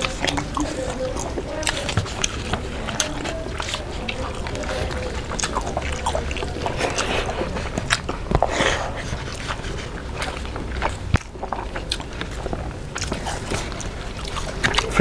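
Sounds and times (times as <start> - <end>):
chewing with wet mouth clicks: 0.0 - 15.0
fingers mixing rice: 0.0 - 15.0.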